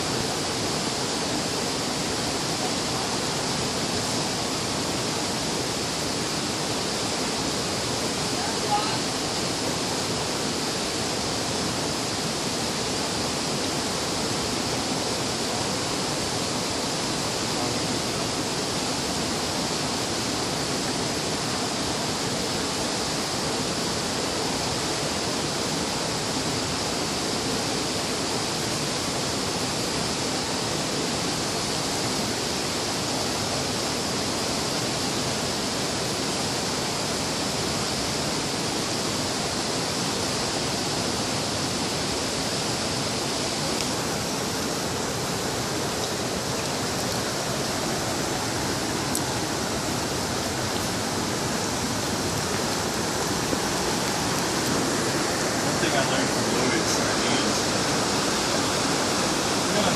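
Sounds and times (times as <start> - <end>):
fast-flowing river rushing: 0.0 - 59.9.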